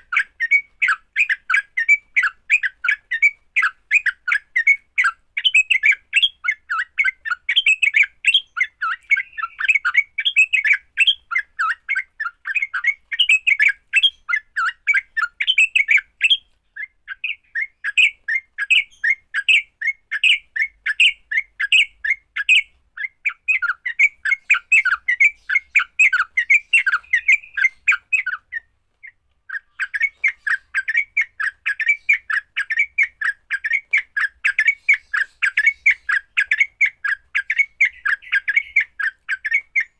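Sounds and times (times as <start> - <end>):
birds chattering calls: 0.0 - 39.9.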